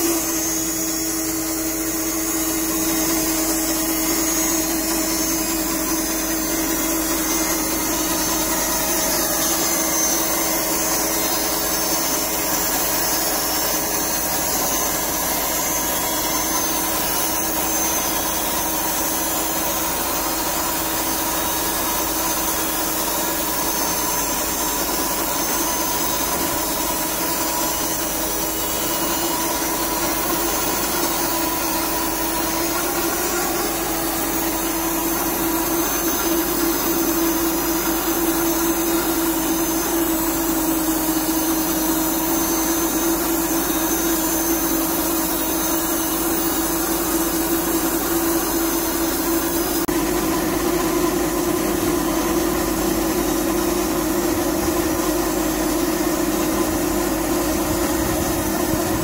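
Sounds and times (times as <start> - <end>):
saw hissing: 0.0 - 49.9, 51.6 - 59.0
band sawmill humming: 0.0 - 59.0.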